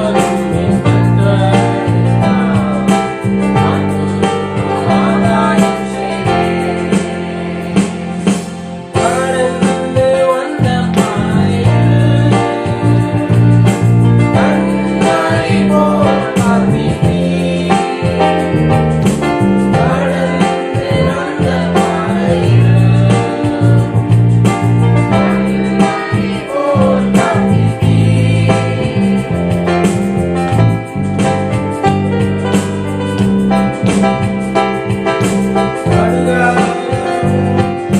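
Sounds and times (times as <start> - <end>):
person singing: 0.0 - 18.9, 19.5 - 24.2, 24.9 - 29.8, 35.7 - 37.9
keyboard chords: 0.0 - 37.9
steady bass line: 0.0 - 37.9.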